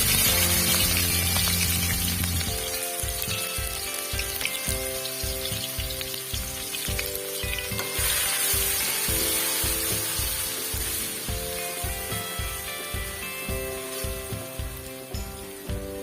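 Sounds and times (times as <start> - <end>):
background music with steady beat: 0.0 - 16.0
food sizzling in frying pan: 0.0 - 16.0.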